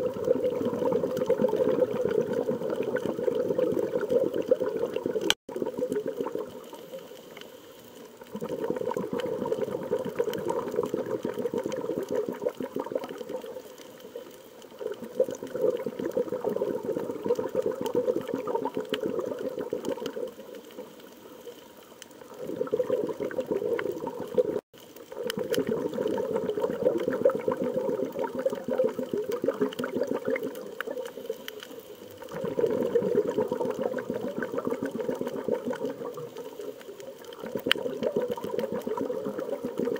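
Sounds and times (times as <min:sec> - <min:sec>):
underwater breath bubbling: 0:00.0 - 0:39.9.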